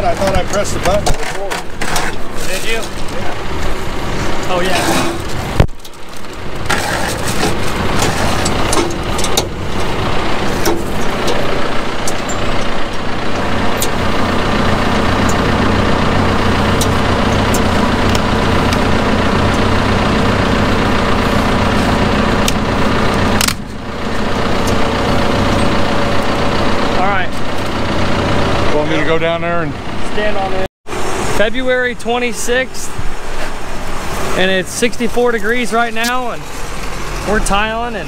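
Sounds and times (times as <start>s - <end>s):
tractor engine idling: 0.0s - 38.0s.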